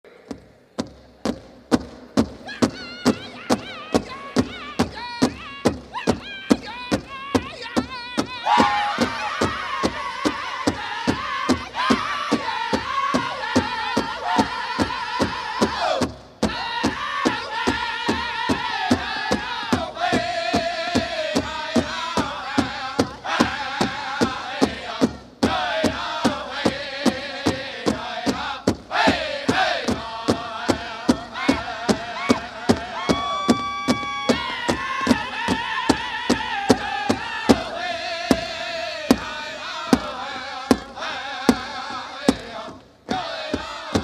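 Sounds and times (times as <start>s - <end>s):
big drum steady beat: 1.1s - 44.0s
group singers chanting: 8.2s - 44.0s.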